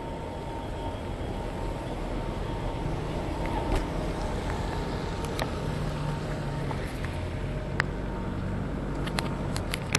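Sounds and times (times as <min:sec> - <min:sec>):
traffic on wet road: 0:00.0 - 0:09.9.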